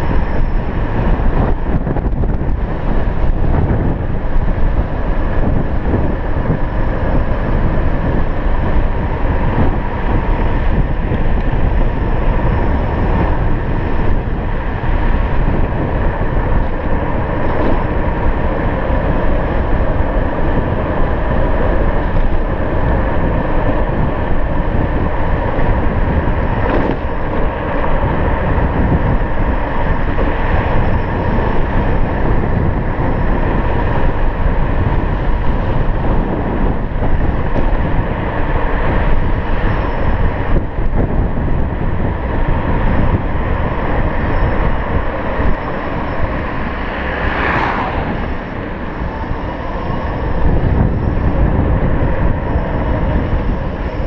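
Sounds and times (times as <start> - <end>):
faint steady whine: 0.0 - 54.0
tyre noise on road: 0.0 - 54.0
wind on microphone: 0.0 - 54.0.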